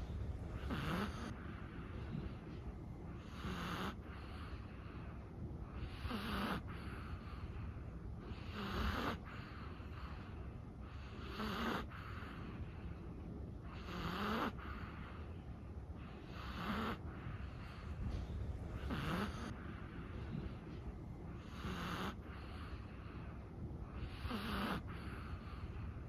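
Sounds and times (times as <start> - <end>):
dog snoring: 0.0 - 12.8, 13.6 - 15.3, 16.0 - 26.0.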